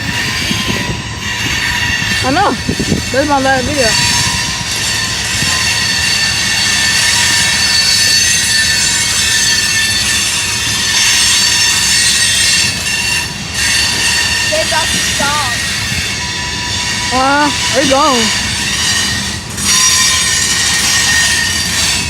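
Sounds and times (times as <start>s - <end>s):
train rumble: 0.0s - 22.0s
train wheels squealing: 0.0s - 22.0s.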